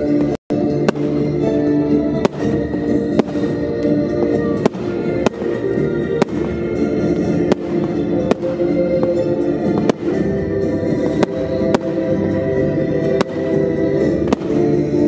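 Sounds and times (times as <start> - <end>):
fireworks bangs: 0.0 - 15.0
music playing: 0.0 - 15.0.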